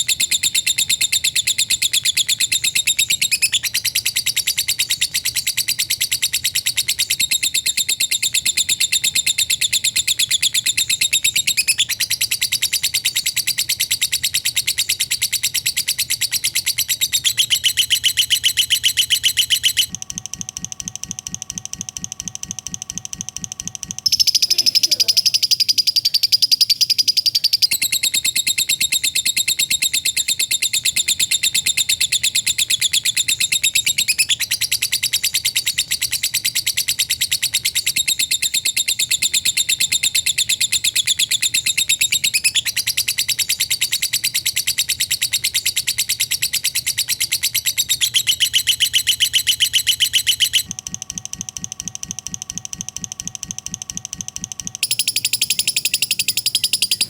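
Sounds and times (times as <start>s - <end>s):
lovebird chattering: 0.0s - 19.9s, 24.0s - 50.7s, 54.8s - 57.0s.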